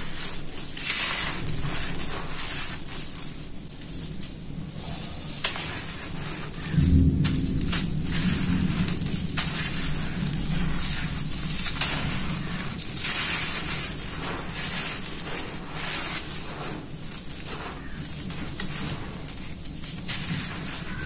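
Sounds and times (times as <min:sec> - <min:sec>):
dry dirt crunching by hand: 0:00.0 - 0:21.0
grit trickling: 0:00.0 - 0:21.0.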